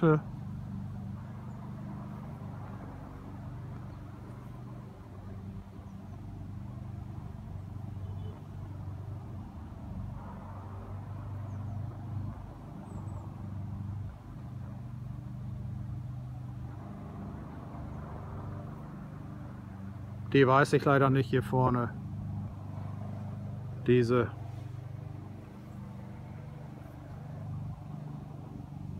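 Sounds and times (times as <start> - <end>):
low engine hum: 0.0 - 28.9.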